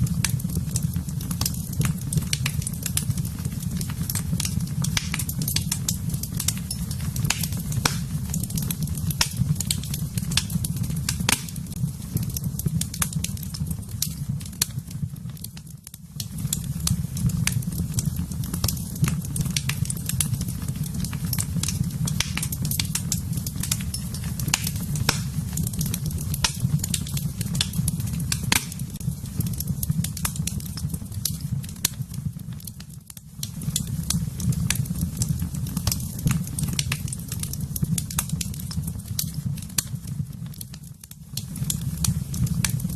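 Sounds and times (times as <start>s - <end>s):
fire crackles and pops: 0.0s - 42.9s
low rumble of flame: 0.0s - 42.9s.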